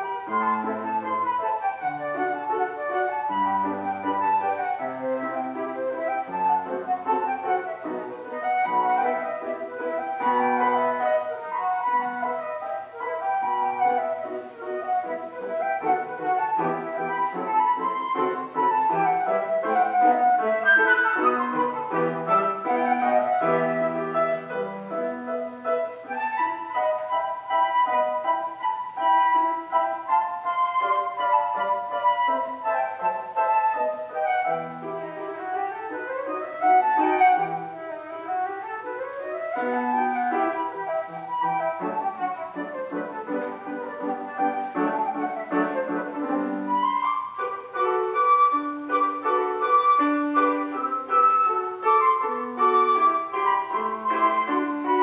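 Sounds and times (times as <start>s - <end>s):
piano accompaniment: 0.0s - 55.0s
solo flute melody: 0.0s - 55.0s.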